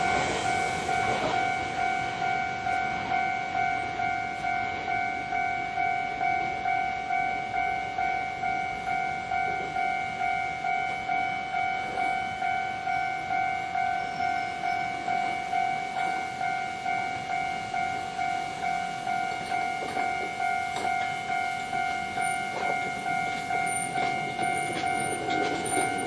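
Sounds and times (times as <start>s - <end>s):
level crossing warning bell ringing: 0.0s - 26.0s
train running: 0.0s - 26.0s.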